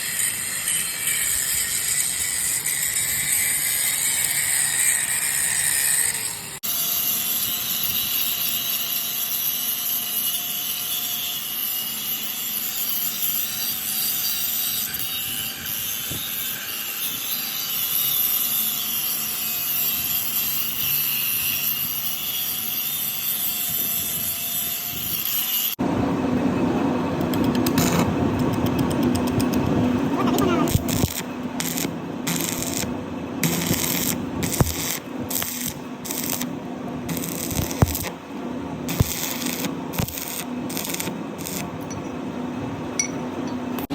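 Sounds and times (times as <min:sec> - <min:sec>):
metalworking machine noise: 0:00.0 - 0:43.9.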